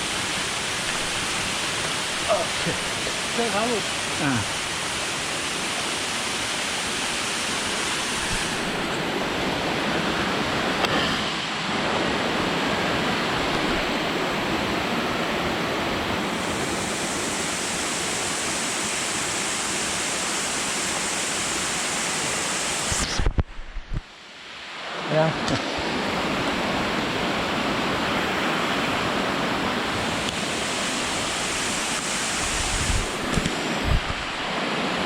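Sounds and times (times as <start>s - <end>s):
falling water rushing: 0.0s - 23.4s, 24.2s - 35.0s.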